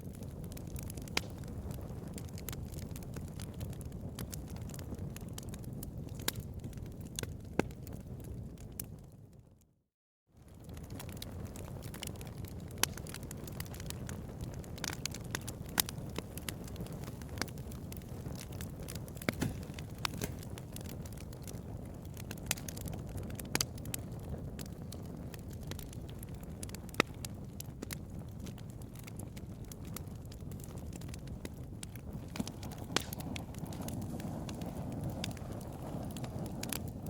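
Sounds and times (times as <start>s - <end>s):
fire pops and snaps: 0.0s - 9.2s, 10.4s - 37.0s
bonfire crackling: 0.0s - 9.4s, 10.4s - 37.0s.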